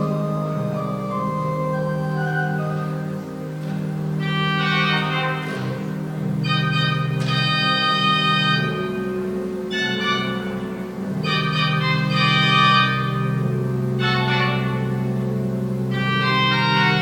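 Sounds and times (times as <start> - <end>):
organ chords: 0.0 - 17.0.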